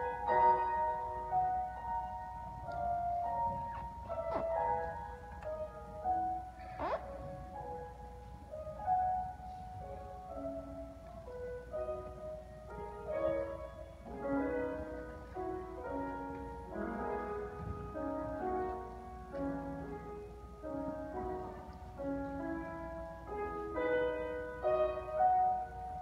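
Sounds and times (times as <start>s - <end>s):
solo grand piano: 0.0s - 26.0s.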